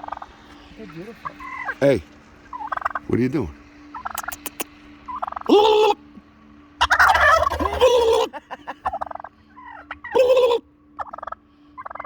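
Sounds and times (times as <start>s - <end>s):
turkeys gobbling: 0.0s - 3.1s, 3.9s - 6.2s, 6.8s - 12.0s
soft turkey calls: 0.0s - 6.2s, 6.8s - 12.0s.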